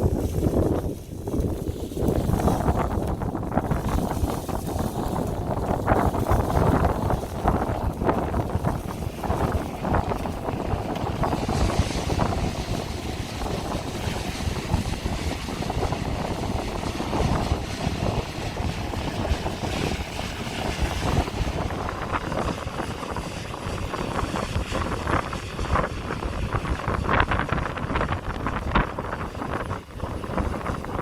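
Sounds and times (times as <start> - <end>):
combine harvesters running: 0.0 - 31.0
wind gusting on microphone: 0.0 - 31.0.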